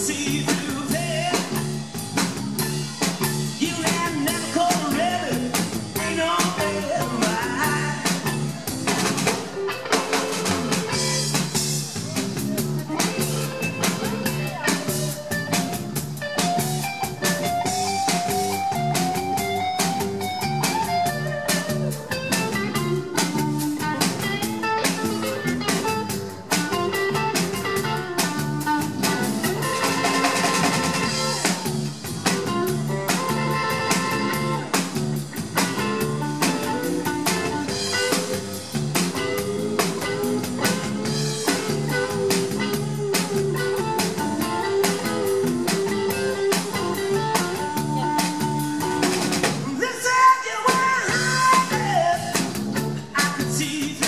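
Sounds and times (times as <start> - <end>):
electric bass: 0.0 - 49.8, 50.8 - 54.0
electric guitar melody: 0.0 - 49.8
drum kit: 0.0 - 54.0.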